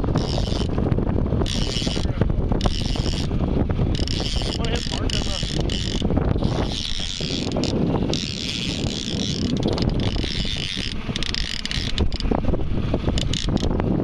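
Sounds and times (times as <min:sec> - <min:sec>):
outboard motor drone: 0:00.0 - 0:14.0
wind buffeting microphone: 0:00.0 - 0:14.0.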